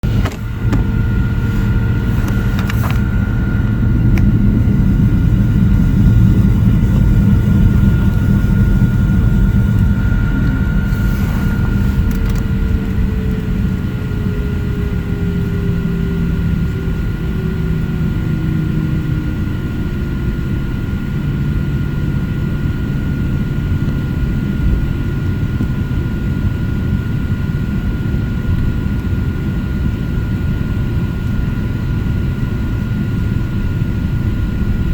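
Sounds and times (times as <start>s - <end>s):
airplane engines rumbling: 0.0s - 34.9s.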